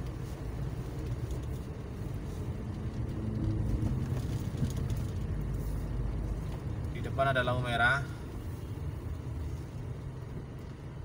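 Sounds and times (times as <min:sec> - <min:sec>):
wind rumble: 0:00.0 - 0:11.0.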